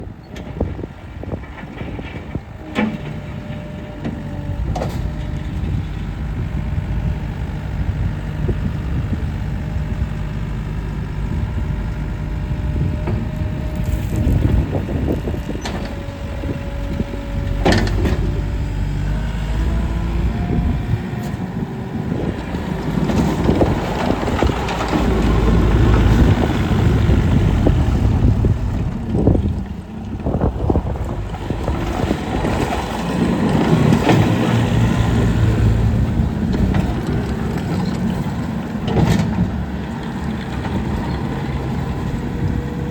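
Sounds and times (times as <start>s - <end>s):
diesel engine revving: 0.1s - 42.9s.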